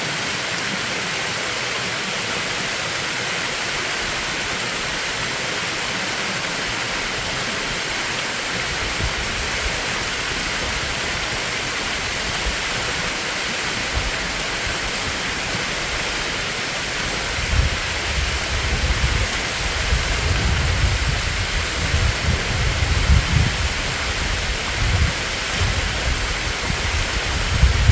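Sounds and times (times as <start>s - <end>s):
stream rushing over rocks: 0.0s - 27.9s.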